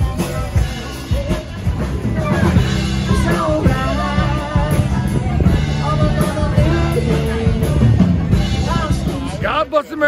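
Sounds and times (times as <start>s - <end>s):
rock song with singing: 0.0s - 10.0s.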